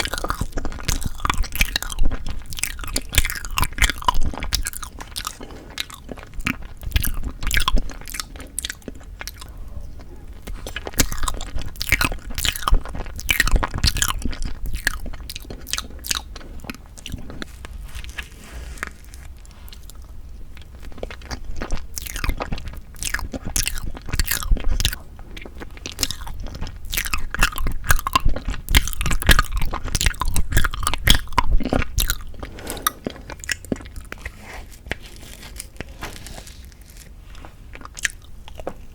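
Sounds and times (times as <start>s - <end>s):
chewing mouth clicks and smacks: 0.0s - 17.5s, 19.7s - 35.2s, 37.7s - 38.9s.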